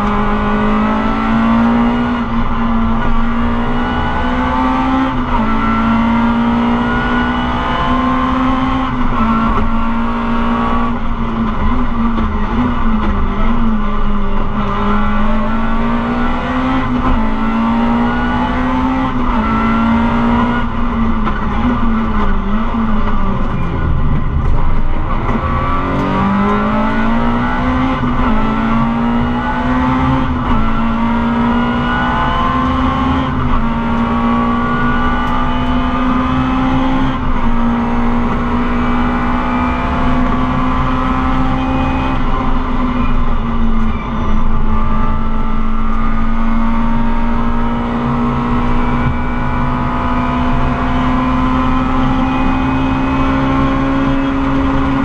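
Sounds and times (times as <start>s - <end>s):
car engine revving: 0.0s - 55.0s
road and tyre noise: 0.0s - 55.0s.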